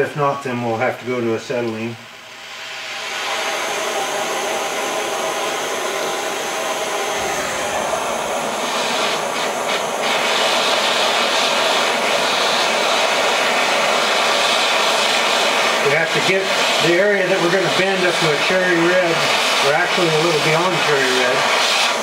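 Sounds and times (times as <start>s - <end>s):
propane torch flame hissing: 1.2s - 22.0s.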